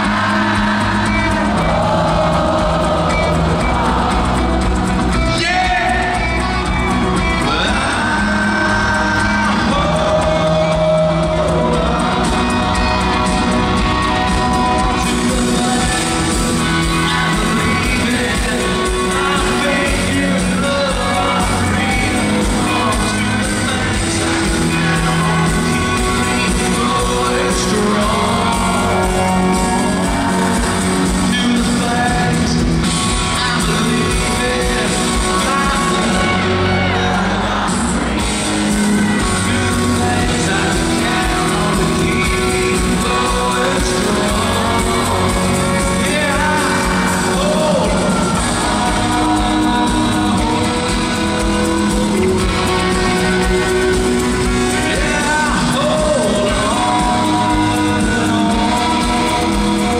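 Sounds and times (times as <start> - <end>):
country band playing live: 0.0 - 59.9
male singer singing: 0.0 - 59.9.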